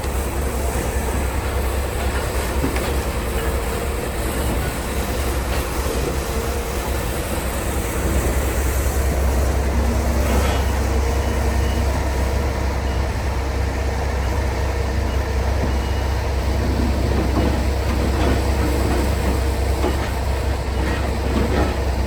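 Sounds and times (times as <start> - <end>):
road and rattle noise: 0.0 - 22.0
truck diesel engine drone: 0.0 - 22.0.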